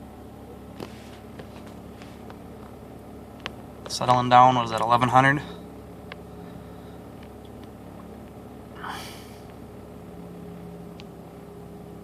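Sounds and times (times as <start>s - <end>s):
rotary engine idling: 0.0s - 12.0s.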